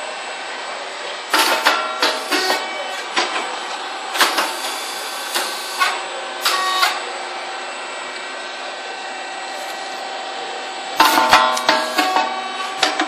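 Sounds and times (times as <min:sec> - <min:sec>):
machine running noise: 0:00.0 - 0:13.0.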